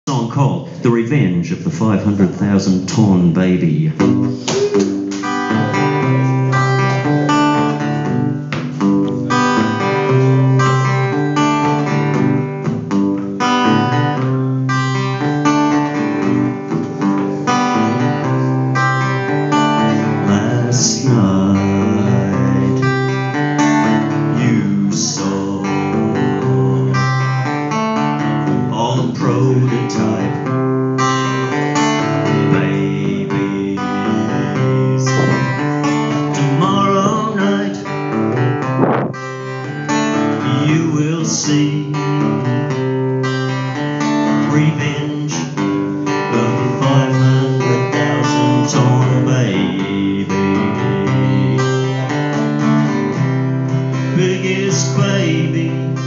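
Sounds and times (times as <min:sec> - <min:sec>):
acoustic guitar strumming: 0:00.1 - 0:56.0.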